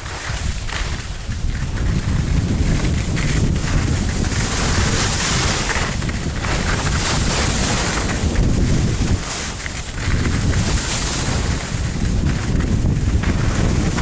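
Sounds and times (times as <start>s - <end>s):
skis hissing over snow: 0.0s - 14.0s
wind buffeting microphone: 0.0s - 14.0s.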